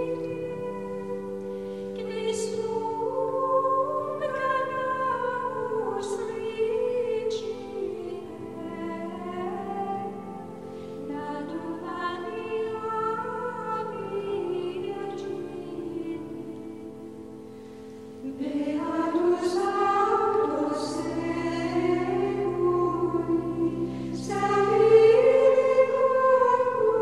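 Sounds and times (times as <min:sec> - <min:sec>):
classical-style singing with vibrato: 0:00.0 - 0:27.0.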